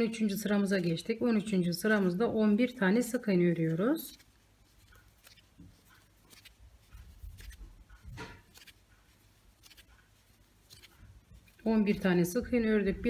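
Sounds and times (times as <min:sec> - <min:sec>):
crochet hook pulling yarn: 0:00.0 - 0:13.0.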